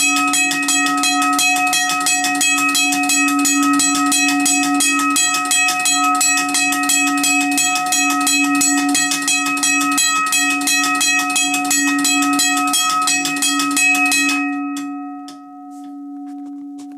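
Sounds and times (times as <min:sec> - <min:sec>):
railroad crossing bell ringing: 0:00.0 - 0:16.9.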